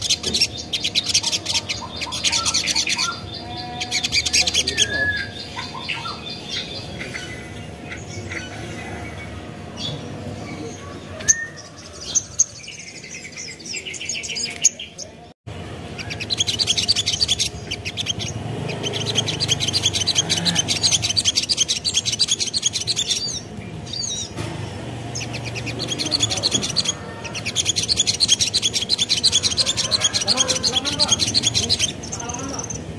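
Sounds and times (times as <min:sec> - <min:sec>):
bird chattering song: 0:00.0 - 0:32.9.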